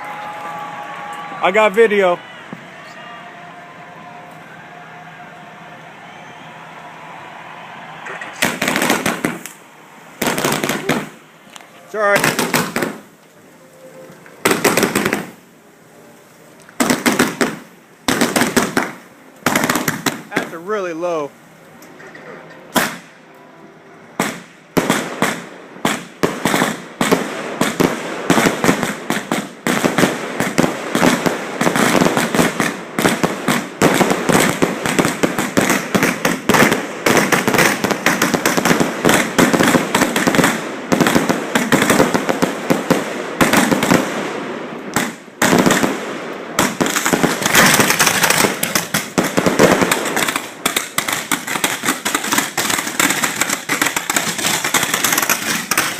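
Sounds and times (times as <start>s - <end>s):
fireworks bangs and crackling: 5.6s - 21.3s, 22.6s - 23.2s, 24.1s - 55.9s.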